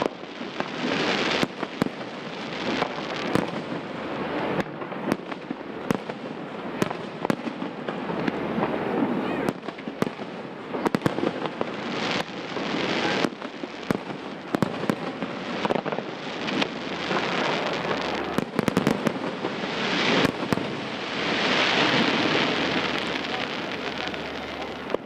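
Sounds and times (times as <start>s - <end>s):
fireworks bangs and cracks: 0.0s - 25.0s
fireworks crackling hiss: 0.0s - 25.0s.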